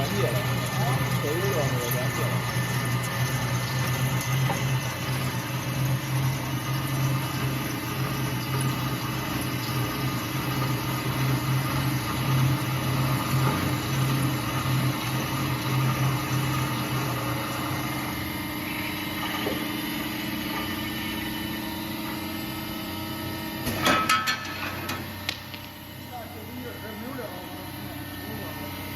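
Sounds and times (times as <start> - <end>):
drilling machine motor hum: 0.0 - 23.7, 25.0 - 28.9.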